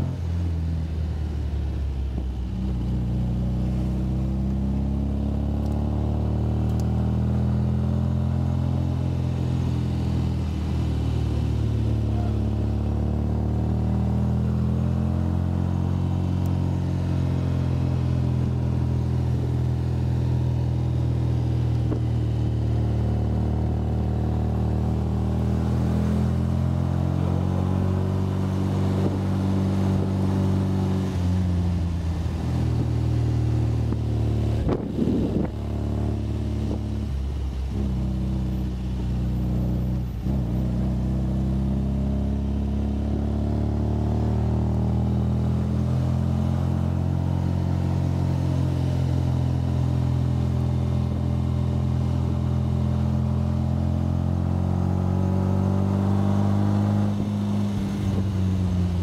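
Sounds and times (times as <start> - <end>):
car engine running under load: 0.0 - 59.0.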